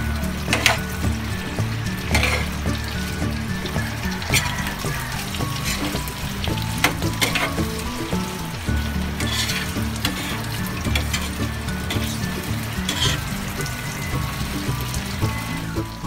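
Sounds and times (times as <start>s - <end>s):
hotdogs sizzling in oil: 0.0s - 16.0s
spatula scraping pan: 0.4s - 15.4s.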